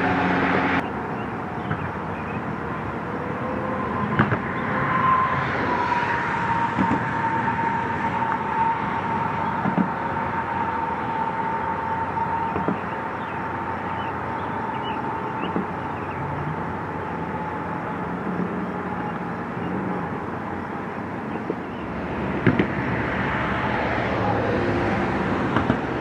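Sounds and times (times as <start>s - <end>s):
freight train rumbling: 0.0s - 26.0s.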